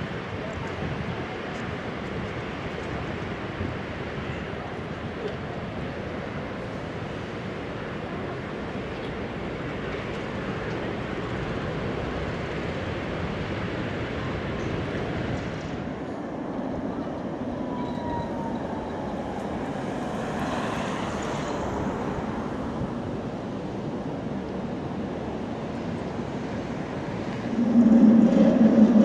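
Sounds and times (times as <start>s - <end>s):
tram wheels rumbling on track: 0.0s - 29.0s.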